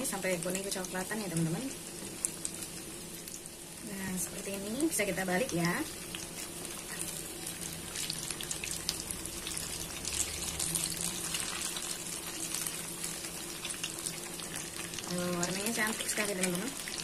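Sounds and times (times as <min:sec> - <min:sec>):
tofu sizzling in hot oil: 0:00.0 - 0:17.0.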